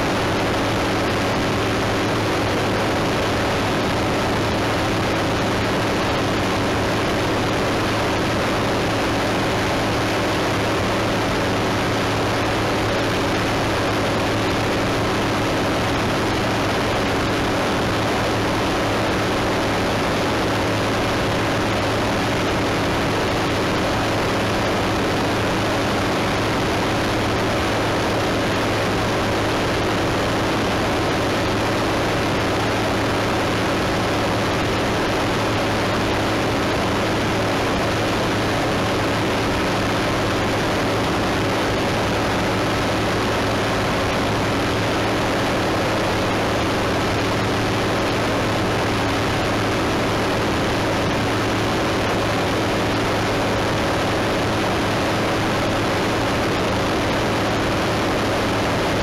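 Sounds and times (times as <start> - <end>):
propeller aircraft engine drone: 0.0 - 59.0.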